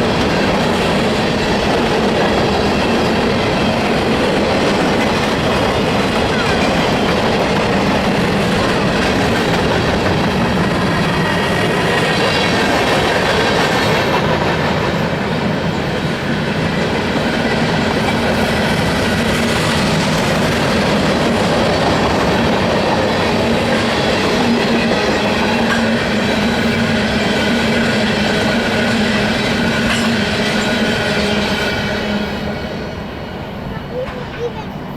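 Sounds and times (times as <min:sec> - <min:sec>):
train wheels clacking on rails: 0:00.0 - 0:34.9.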